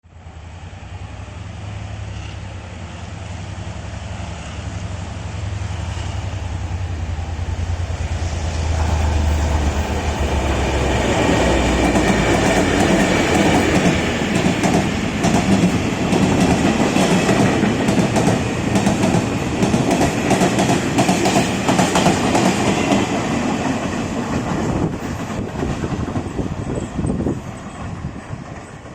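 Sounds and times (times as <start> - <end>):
diesel locomotive engine drone: 0.0 - 28.9.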